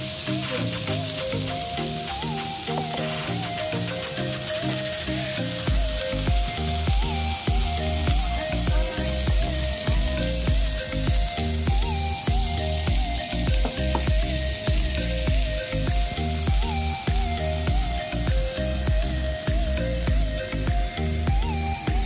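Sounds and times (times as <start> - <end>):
background music with bass beat: 0.0 - 22.0
steak sizzling on hot plate: 0.0 - 22.0.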